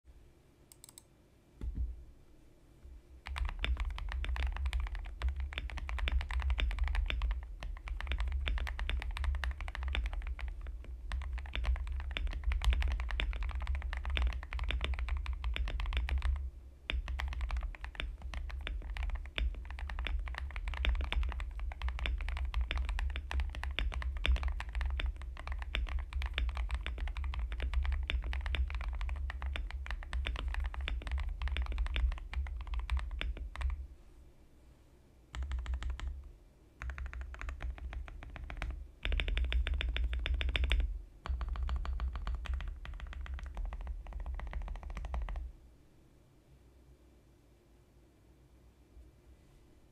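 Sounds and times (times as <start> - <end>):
fast mechanical keyboard typing: 3.2 - 33.8, 35.3 - 36.2, 36.8 - 45.5.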